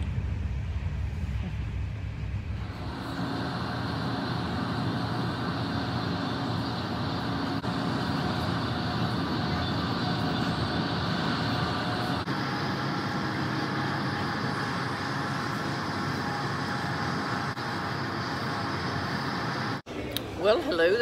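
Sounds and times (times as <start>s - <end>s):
faint steady whine: 0.0s - 20.2s.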